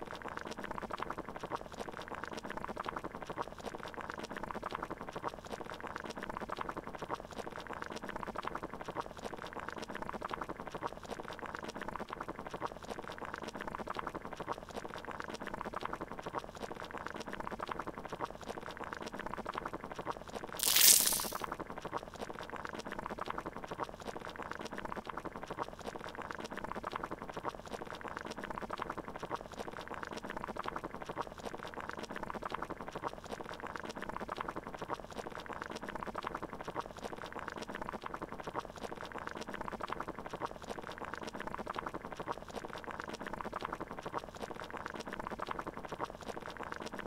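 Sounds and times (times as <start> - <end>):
boiling water bubbling: 0.1 - 47.0.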